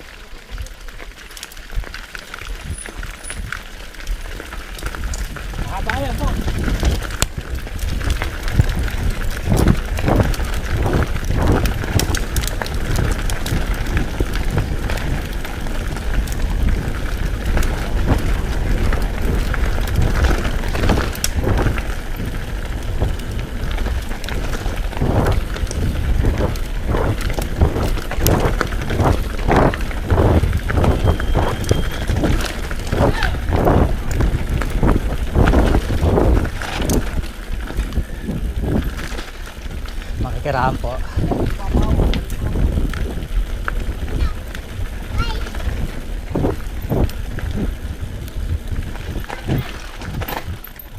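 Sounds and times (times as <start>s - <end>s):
bike rattling and clattering: 0.0s - 50.9s
wind buffeting microphone: 1.7s - 50.9s.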